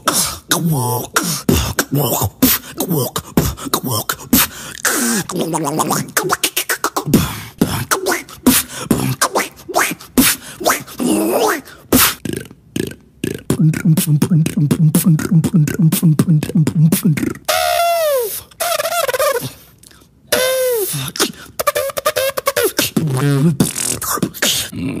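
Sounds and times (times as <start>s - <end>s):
wavering vocal tones: 0.0s - 25.0s
beatboxing clicks and pops: 1.5s - 10.9s, 12.0s - 17.6s, 18.6s - 24.7s.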